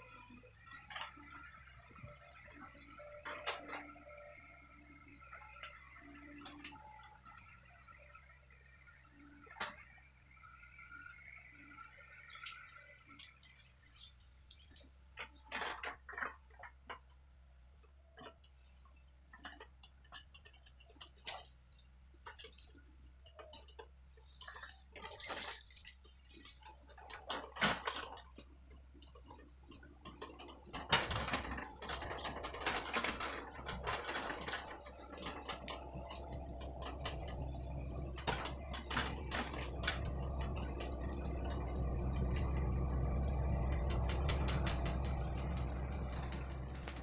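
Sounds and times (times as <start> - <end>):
excavator diesel engine humming: 0.0 - 47.0.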